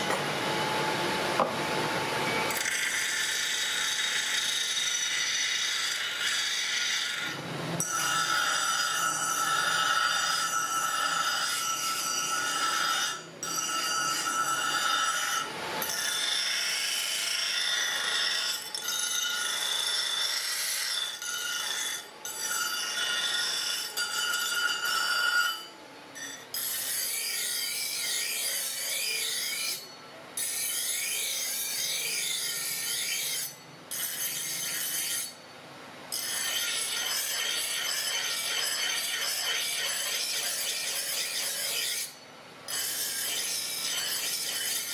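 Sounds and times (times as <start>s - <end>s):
axe head grinding on wheel: 2.5s - 35.4s, 36.1s - 44.9s.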